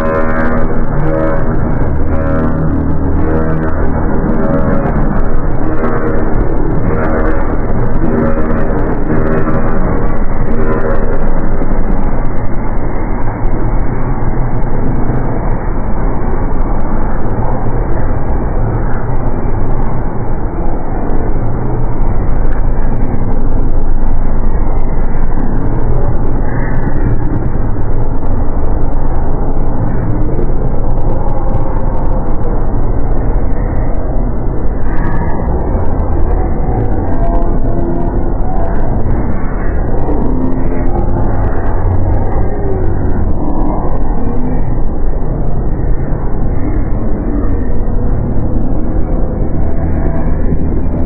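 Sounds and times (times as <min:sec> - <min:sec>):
deep rumbling drone: 0:00.0 - 0:51.0.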